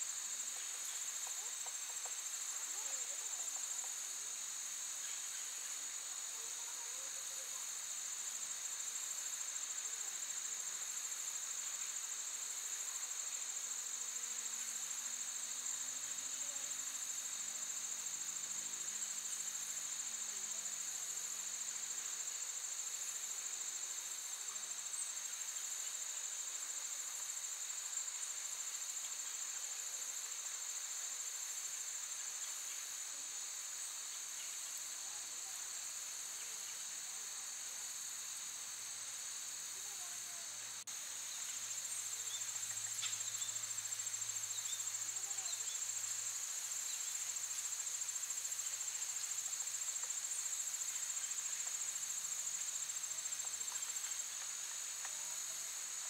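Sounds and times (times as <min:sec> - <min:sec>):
fainter lower insect tone: 0:00.0 - 0:56.0
insects trilling: 0:00.0 - 0:56.0.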